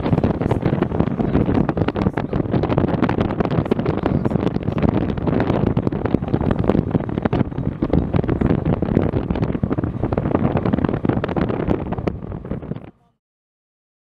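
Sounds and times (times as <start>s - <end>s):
moving car rumble: 0.0s - 13.2s
wind buffeting microphone: 0.0s - 13.2s.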